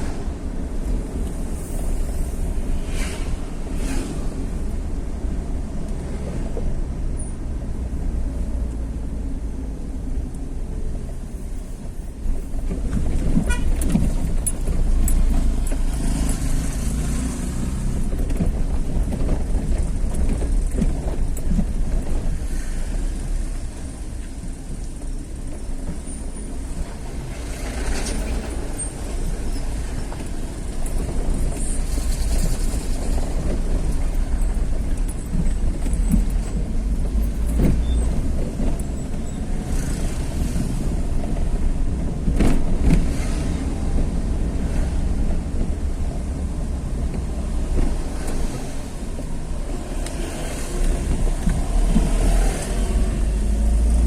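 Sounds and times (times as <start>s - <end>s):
vehicle running along a road: 0.0s - 54.0s.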